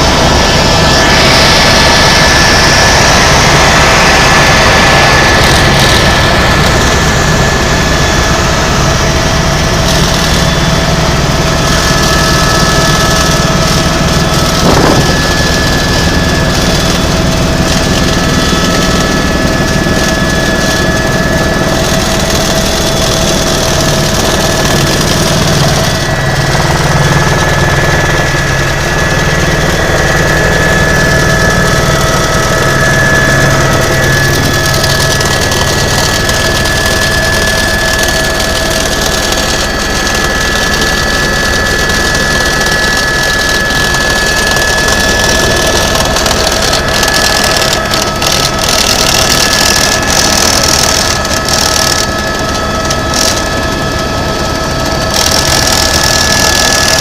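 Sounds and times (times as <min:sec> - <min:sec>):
helicopter engine and rotor: 0:00.0 - 0:57.0
high turbine whine: 0:00.0 - 0:57.0.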